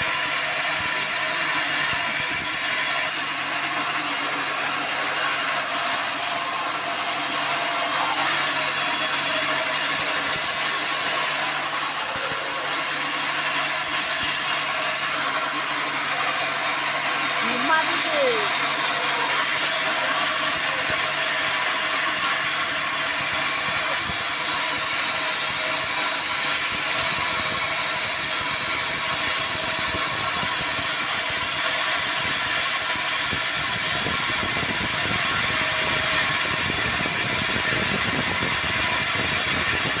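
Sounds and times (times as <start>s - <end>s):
band saw sawing a log: 0.0s - 40.0s.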